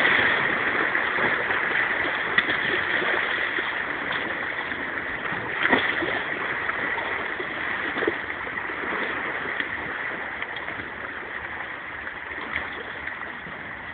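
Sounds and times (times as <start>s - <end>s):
waves lapping against rocks: 0.0s - 13.9s.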